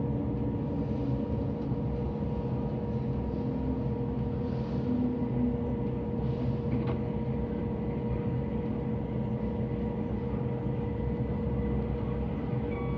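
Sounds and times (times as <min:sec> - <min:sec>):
train interior rumble: 0:00.0 - 0:12.9.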